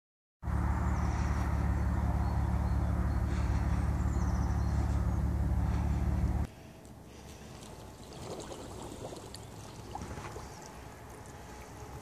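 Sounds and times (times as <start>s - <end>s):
outdoor background: 0.4s - 12.0s
vehicle engine humming: 0.4s - 12.0s.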